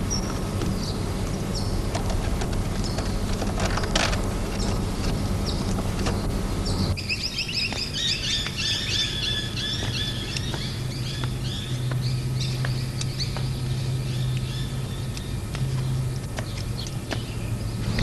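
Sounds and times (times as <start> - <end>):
faint steady hum: 0.0 - 18.0
small birds chirping: 0.0 - 18.0.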